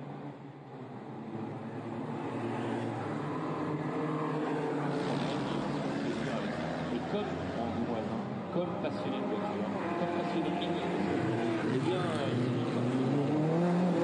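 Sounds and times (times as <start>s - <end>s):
racing car engine approaching: 1.2s - 14.0s.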